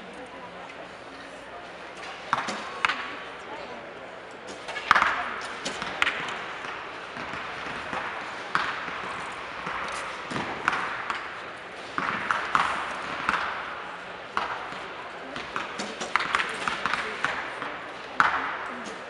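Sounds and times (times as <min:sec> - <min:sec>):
murmur of voices: 0:00.0 - 0:19.0
arrows striking targets: 0:02.0 - 0:03.1, 0:04.5 - 0:19.0.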